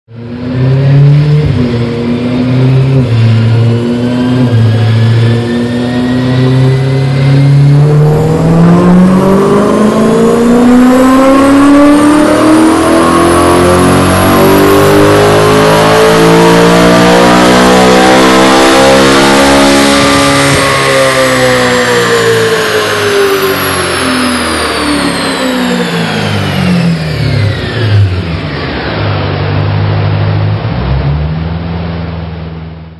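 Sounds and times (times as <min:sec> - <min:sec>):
car engine revving on a dyno: 0:00.1 - 0:32.9.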